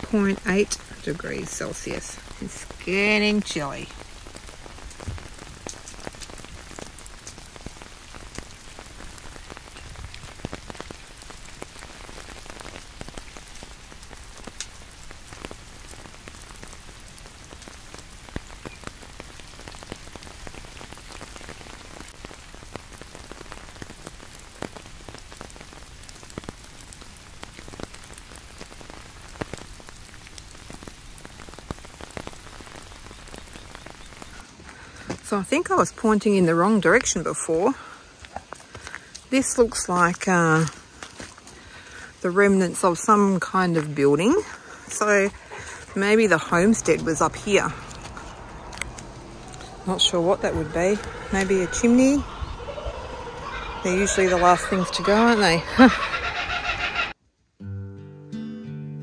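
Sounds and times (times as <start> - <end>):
raindrops tapping: 0.0 - 56.5
rain falling: 0.0 - 57.6.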